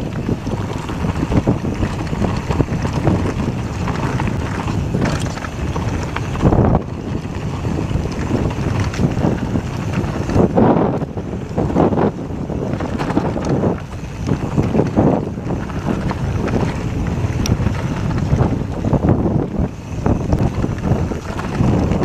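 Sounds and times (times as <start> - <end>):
bike rattling over rough dirt: 0.0 - 22.0
wind buffeting microphone: 0.0 - 22.0.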